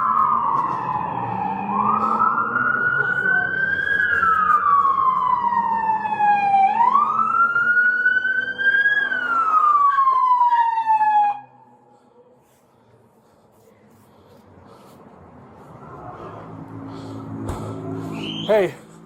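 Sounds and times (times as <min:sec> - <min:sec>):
emergency siren wailing: 0:00.0 - 0:12.0, 0:15.4 - 0:19.0.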